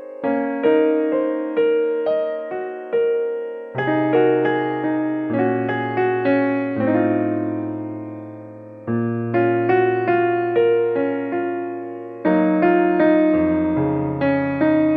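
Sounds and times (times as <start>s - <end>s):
gentle piano music: 0.0s - 14.9s.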